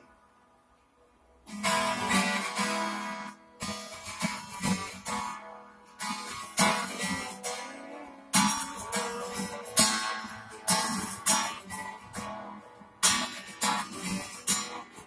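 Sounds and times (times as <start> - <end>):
acoustic guitar strumming chords: 1.5 - 15.0.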